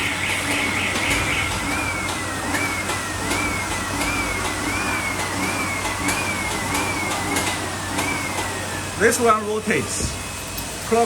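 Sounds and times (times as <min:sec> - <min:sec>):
high mechanical whine: 0:00.0 - 0:11.0
machine motor hum: 0:00.0 - 0:11.0.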